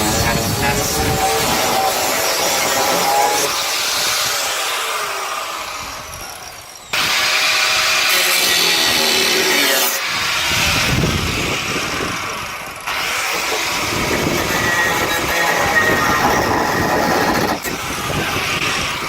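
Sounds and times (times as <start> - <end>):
power tool cutting sheet steel: 0.0 - 19.0.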